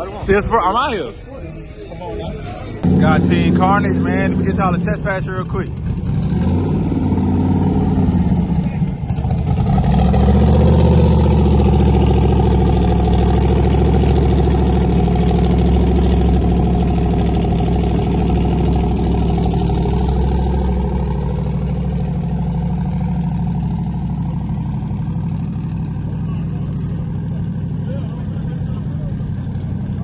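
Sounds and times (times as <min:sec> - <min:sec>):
car engine idling: 0:02.6 - 0:30.0.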